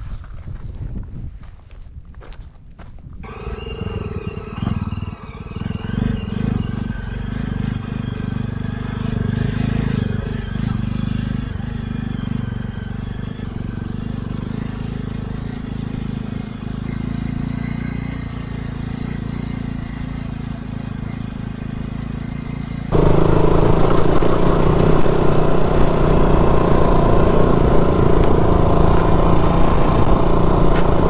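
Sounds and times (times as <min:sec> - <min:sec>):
wind and road noise: 0:00.0 - 0:31.0
motorcycle engine running: 0:03.2 - 0:31.0.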